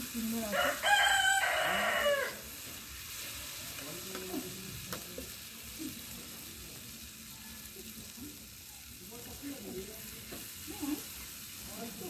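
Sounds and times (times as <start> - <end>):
gravy sizzling in hot oil: 0.0 - 12.0.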